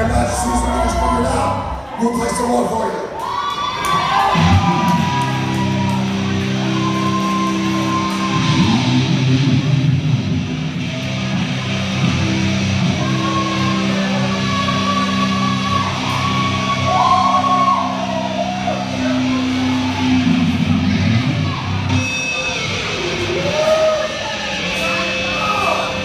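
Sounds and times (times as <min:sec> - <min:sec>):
crowd voices: 0:00.0 - 0:26.0
electric guitar ringing chords: 0:04.4 - 0:26.0.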